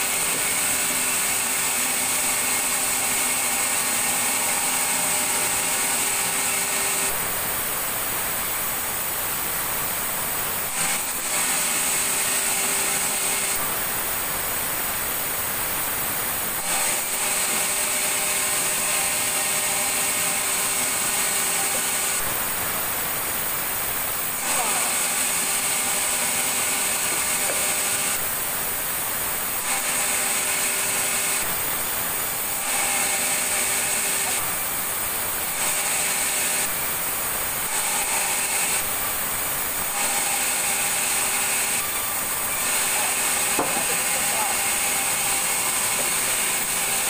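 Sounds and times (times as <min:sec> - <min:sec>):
sawmill machinery running: 0:00.0 - 0:47.0.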